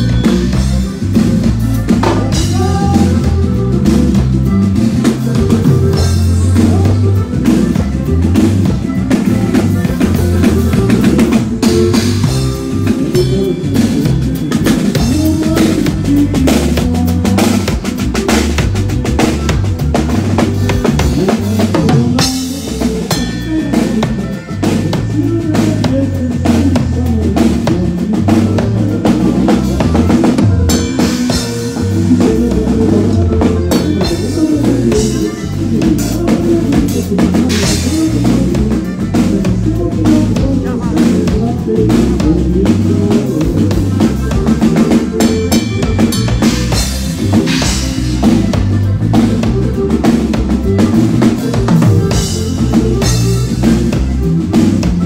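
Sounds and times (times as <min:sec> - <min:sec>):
button accordion: 0:00.0 - 0:55.0
drum kit: 0:00.0 - 0:55.0.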